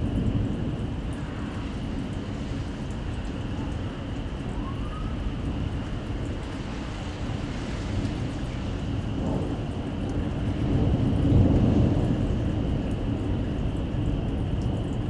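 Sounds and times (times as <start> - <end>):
rain falling: 0.0 - 15.0
wind buffeting microphone: 0.0 - 15.0.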